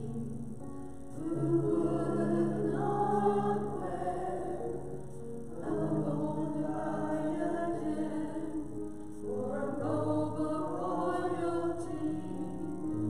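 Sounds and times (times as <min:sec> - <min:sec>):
church choir singing: 0:00.0 - 0:13.0.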